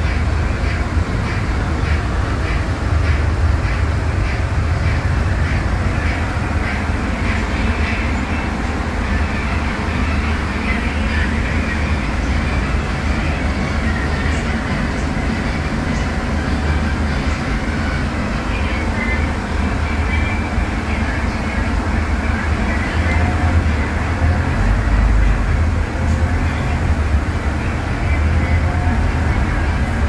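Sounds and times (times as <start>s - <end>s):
bus diesel engine drone: 0.0s - 30.0s
road noise: 0.0s - 30.0s.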